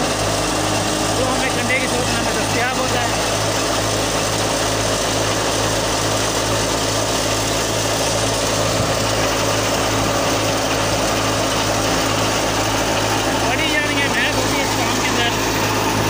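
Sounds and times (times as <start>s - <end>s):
wheat thresher running: 0.0s - 16.0s.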